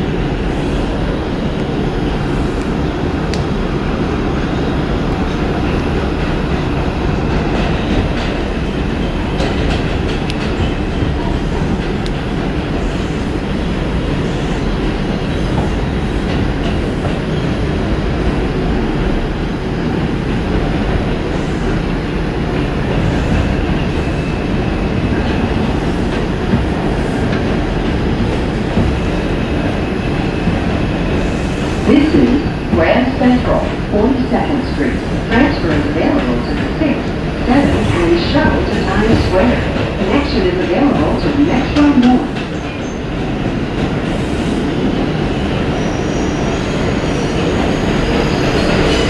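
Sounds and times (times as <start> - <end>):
subway train wheels on rail: 0.0 - 49.0.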